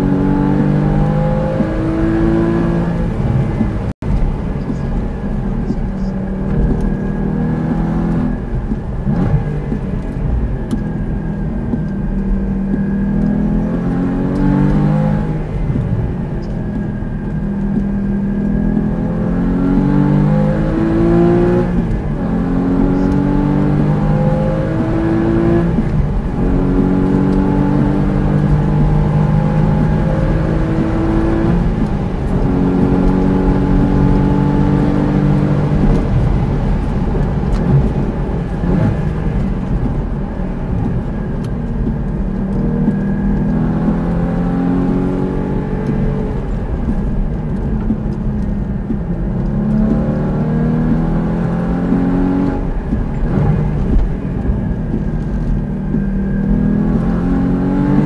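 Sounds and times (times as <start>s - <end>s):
sports car engine accelerating: 0.0s - 58.0s.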